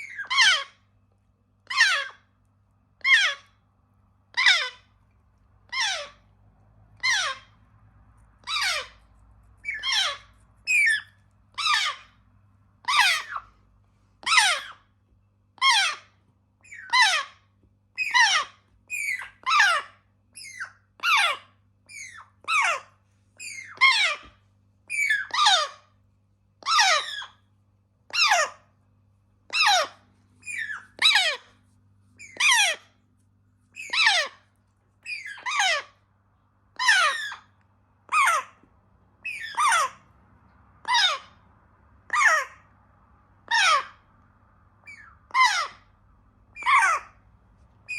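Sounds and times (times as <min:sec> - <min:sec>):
parrot chicks food-begging calls: 0:00.0 - 0:00.9, 0:01.6 - 0:03.6, 0:04.2 - 0:13.6, 0:14.2 - 0:26.0, 0:26.6 - 0:27.5, 0:28.1 - 0:28.8, 0:29.4 - 0:33.0, 0:33.6 - 0:47.9.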